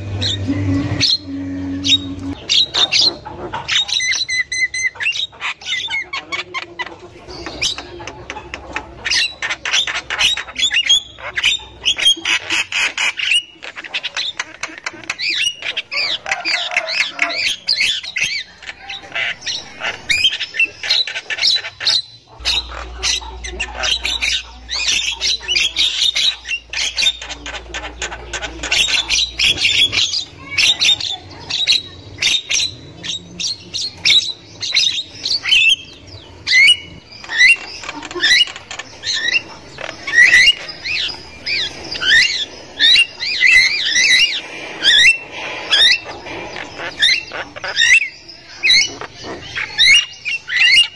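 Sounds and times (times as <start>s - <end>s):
mynas chattering: 0.0s - 50.9s.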